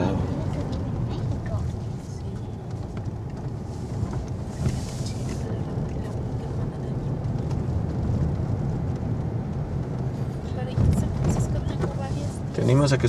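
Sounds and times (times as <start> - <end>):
truck engine rumble from inside: 0.0 - 13.0.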